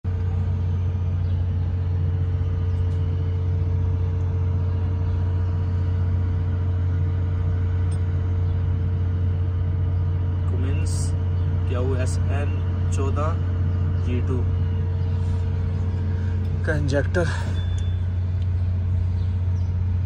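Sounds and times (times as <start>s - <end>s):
diesel generator droning: 0.0s - 20.0s.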